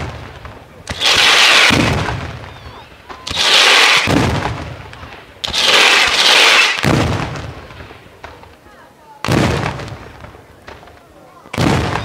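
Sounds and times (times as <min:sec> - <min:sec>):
firework volleys cracking: 0:00.0 - 0:12.0.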